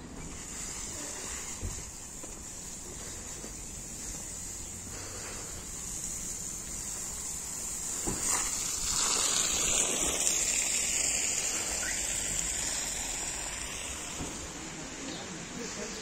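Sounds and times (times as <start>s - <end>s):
garden hose spraying water: 0.2s - 16.0s.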